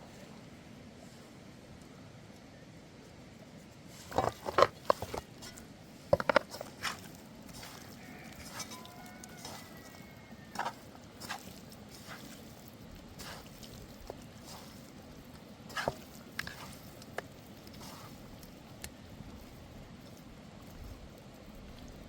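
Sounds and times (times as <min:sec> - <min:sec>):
steady low hiss: 0:00.0 - 0:08.4, 0:09.0 - 0:22.0.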